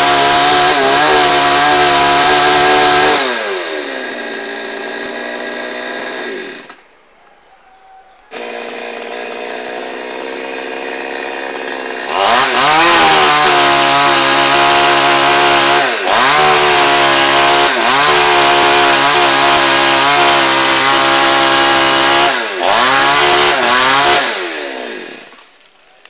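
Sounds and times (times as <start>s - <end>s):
chainsaw idling and revving: 0.0s - 6.8s, 8.3s - 25.4s.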